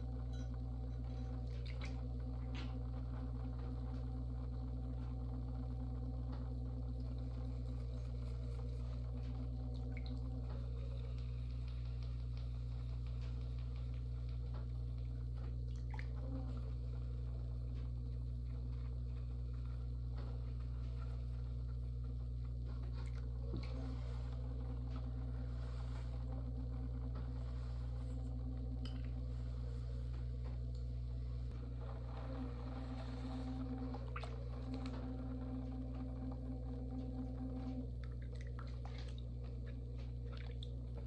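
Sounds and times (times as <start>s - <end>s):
pottery wheel motor humming: 0.0s - 41.0s.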